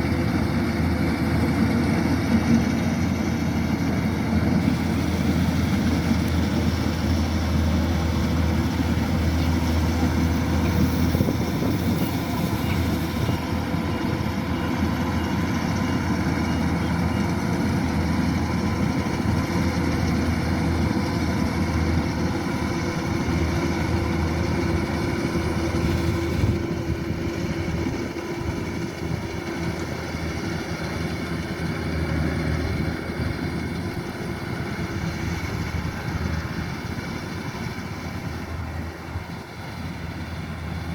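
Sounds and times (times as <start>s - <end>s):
combine harvester diesel engine droning: 0.0s - 40.9s.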